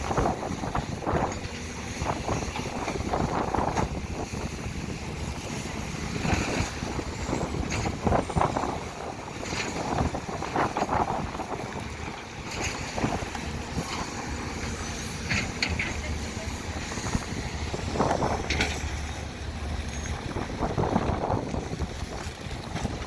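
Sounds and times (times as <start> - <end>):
excavator diesel engines: 0.0 - 23.0
wind buffeting microphone: 0.0 - 23.0.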